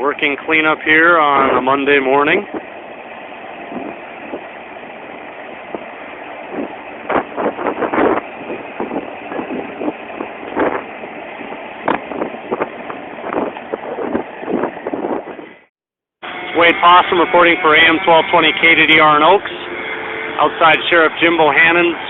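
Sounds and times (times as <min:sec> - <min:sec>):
machine noise: 0:00.3 - 0:22.0.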